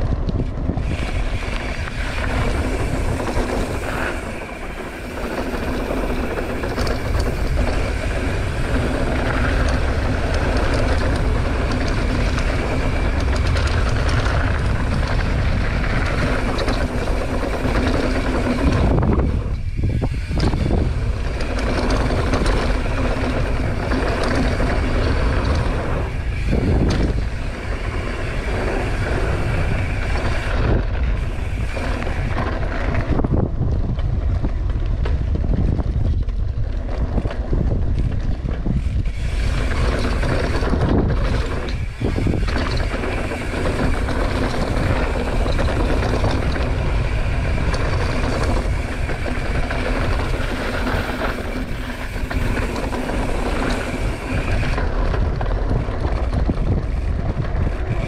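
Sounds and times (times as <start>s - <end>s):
bike tyres rattling on dirt trail: 0.0s - 58.0s
wind rushing over microphone: 0.0s - 58.0s.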